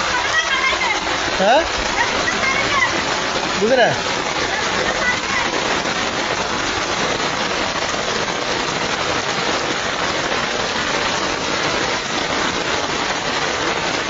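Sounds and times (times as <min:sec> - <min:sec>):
heavy rain on water: 0:00.0 - 0:14.0.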